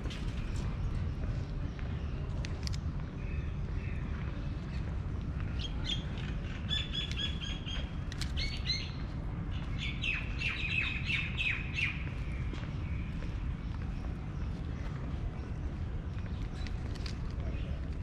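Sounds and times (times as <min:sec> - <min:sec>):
steady low rumble: 0:00.0 - 0:18.0
small birds chirping: 0:00.3 - 0:18.0.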